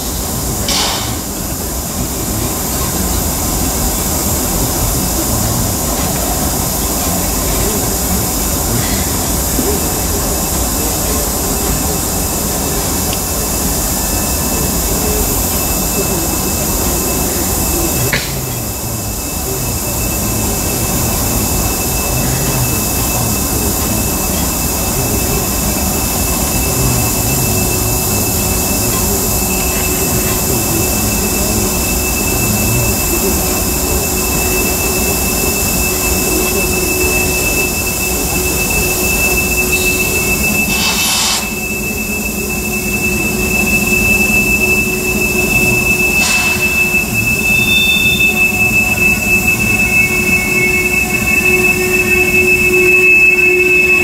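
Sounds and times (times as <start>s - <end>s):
freight train wheels rumbling: 0.0s - 54.0s
high wheel squeal: 0.0s - 54.0s.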